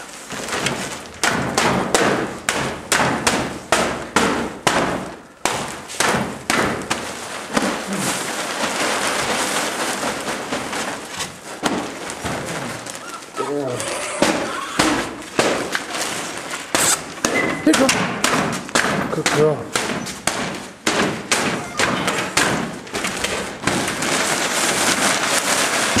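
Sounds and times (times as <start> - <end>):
scratching and rustling: 0.0 - 1.7, 5.7 - 26.0.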